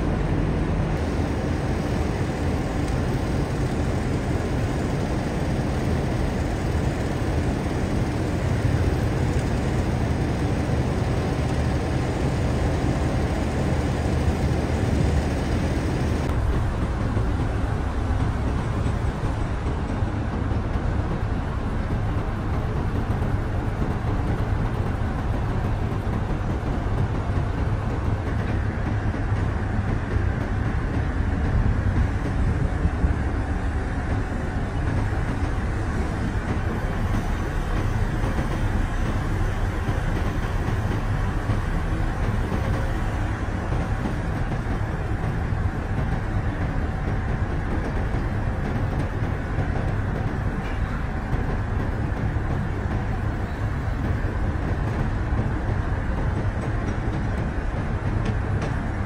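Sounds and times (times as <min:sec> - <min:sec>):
heavy machinery rumbling: 0:00.0 - 0:59.0.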